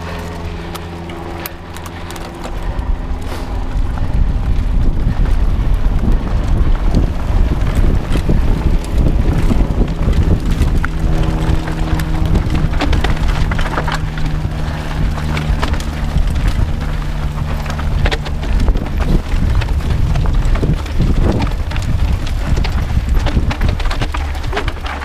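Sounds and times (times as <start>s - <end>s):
bike clattering over rocks: 0.0s - 25.0s
steady low buzz: 0.0s - 25.0s
wind buffeting microphone: 0.0s - 25.0s.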